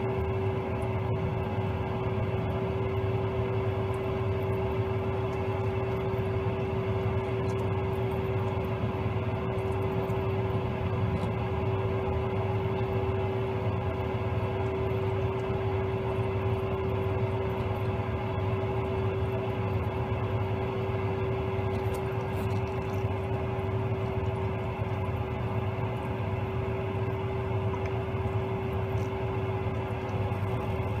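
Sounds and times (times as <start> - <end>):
gas boiler humming: 0.0 - 31.0.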